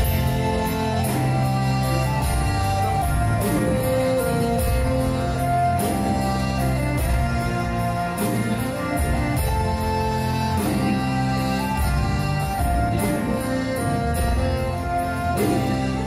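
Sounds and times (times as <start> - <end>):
folk-rock band playing live: 0.0 - 16.0.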